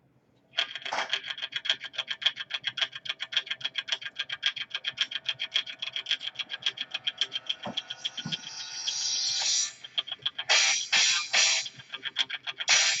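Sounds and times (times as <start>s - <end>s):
rapid even clicking: 0.5s - 8.6s, 9.4s - 13.0s.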